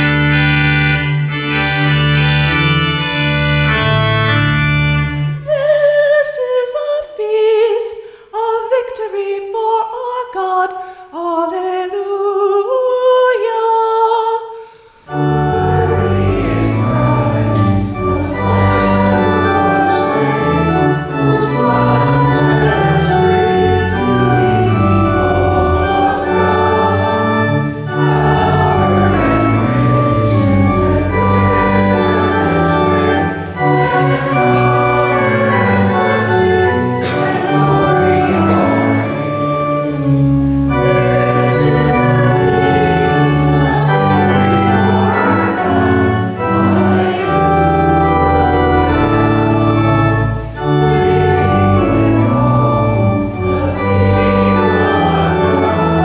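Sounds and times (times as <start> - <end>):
organ playing sustained chords: 0.0 - 5.6, 15.0 - 56.0.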